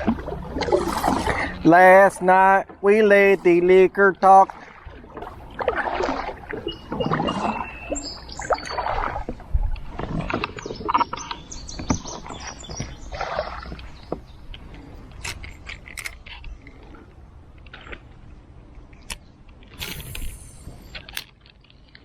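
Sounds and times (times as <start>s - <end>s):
water splashing against kayak: 0.0s - 22.0s.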